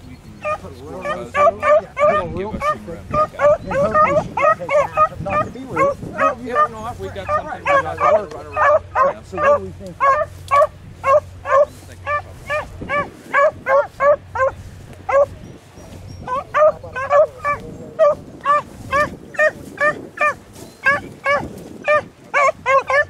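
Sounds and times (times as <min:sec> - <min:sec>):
hounds baying: 0:00.2 - 0:23.0.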